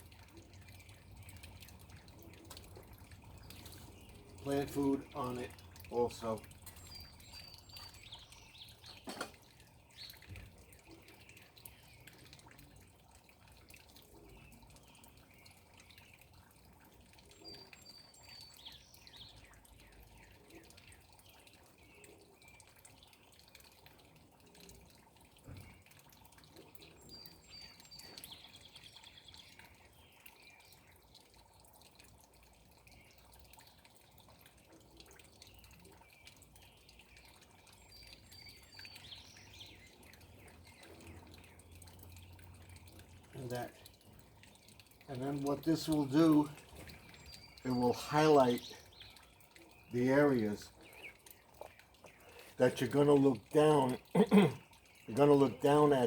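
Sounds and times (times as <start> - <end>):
water dripping and trickling: 0.0 - 56.0.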